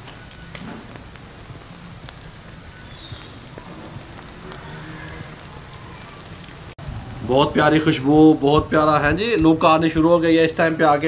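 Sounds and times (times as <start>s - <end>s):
sharp pops: 0.0s - 10.8s
fish sizzling on a grill: 0.0s - 11.0s.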